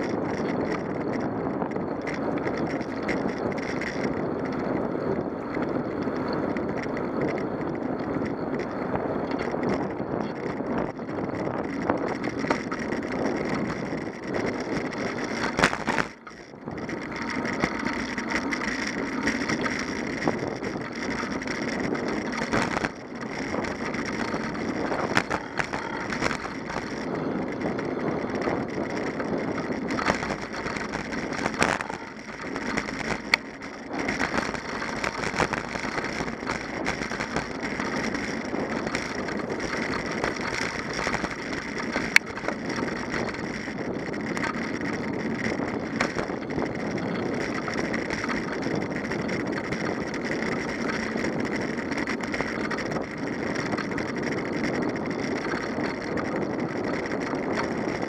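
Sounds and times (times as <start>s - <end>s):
bicycle tyres crunching gravel: 0.0s - 58.0s
rattling clicks: 0.0s - 58.0s.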